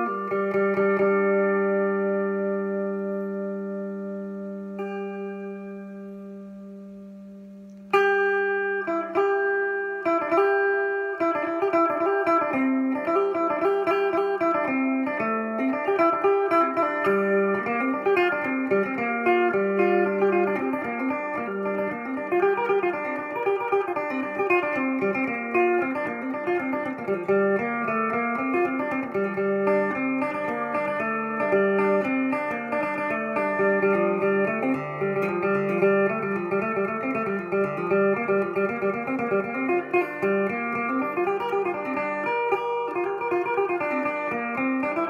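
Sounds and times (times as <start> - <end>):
plucked lute melody: 0.0 - 45.0.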